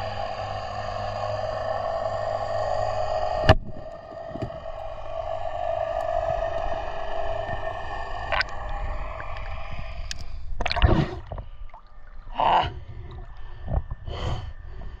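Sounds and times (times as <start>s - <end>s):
water splashing: 0.0s - 13.5s
muffled underwater humming: 0.0s - 15.0s.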